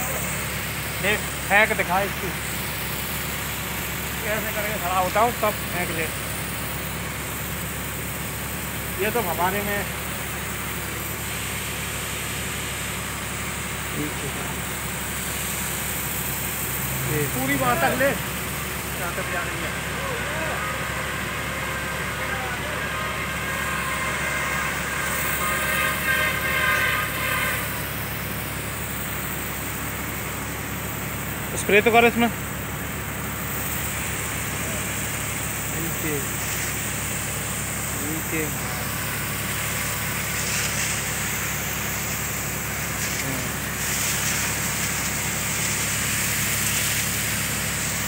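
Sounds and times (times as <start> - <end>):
high steady whine: 0.0 - 48.0
high-pressure spray hissing: 0.0 - 48.0
tractor engine running: 0.0 - 48.0.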